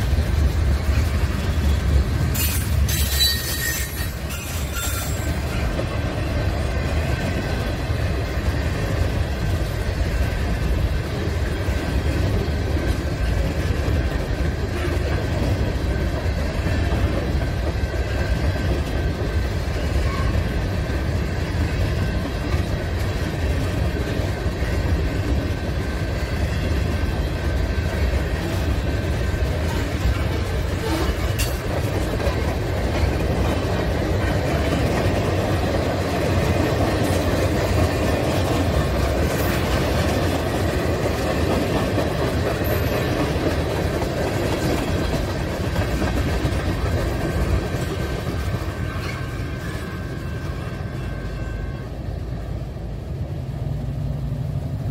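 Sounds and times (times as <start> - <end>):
freight train rolling on rails: 0.0 - 54.9.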